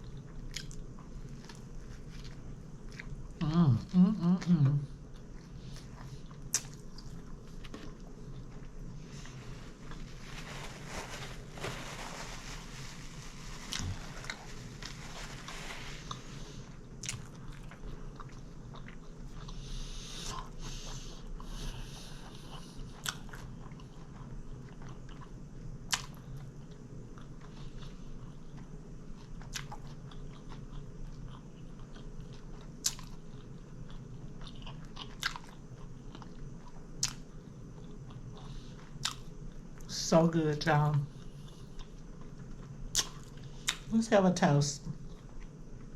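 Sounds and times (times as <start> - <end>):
chewing and crunching sandwich: 0.0 - 39.9, 40.8 - 43.9, 44.9 - 45.9.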